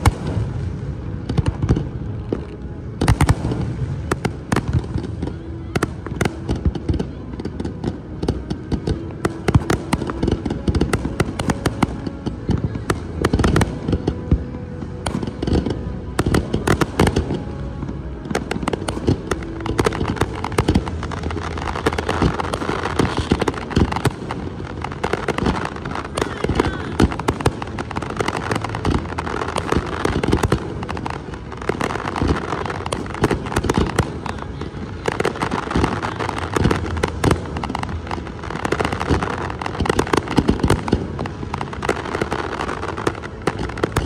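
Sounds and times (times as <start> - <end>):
crackle of bursting stars: 0.0 - 44.0.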